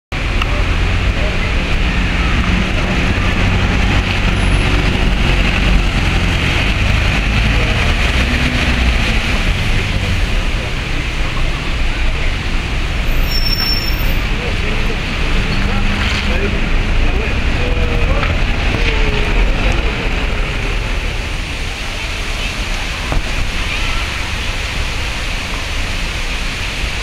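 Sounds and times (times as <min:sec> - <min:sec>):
bus engine hum: 0:00.2 - 0:27.0
tyres hissing on wet pavement: 0:00.2 - 0:27.0.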